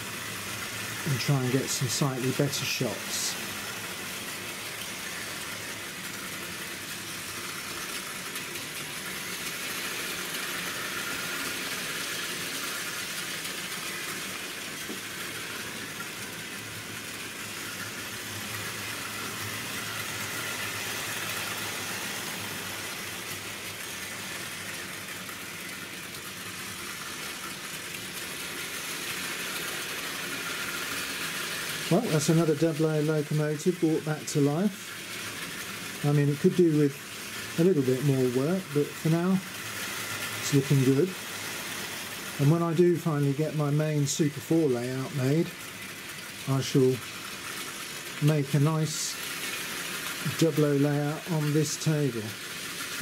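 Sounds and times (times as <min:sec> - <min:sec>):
model train motor whirring: 0:00.0 - 0:53.0
wheels rattling on track: 0:00.0 - 0:53.0.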